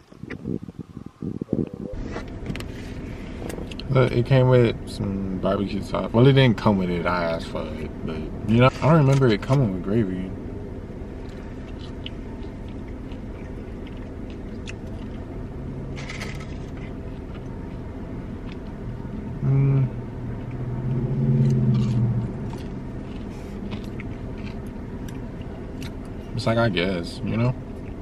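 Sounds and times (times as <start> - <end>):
low hums: 0.0 - 28.0
car idling: 1.9 - 28.0.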